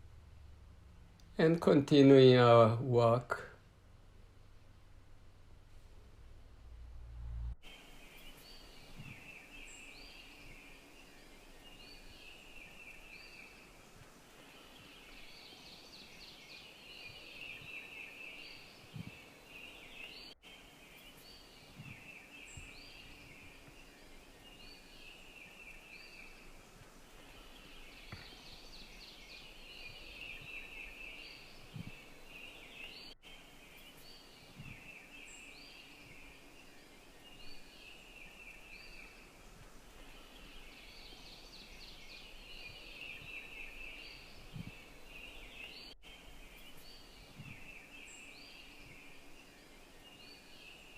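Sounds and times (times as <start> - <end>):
woodland birdsong: 7.6 - 50.9.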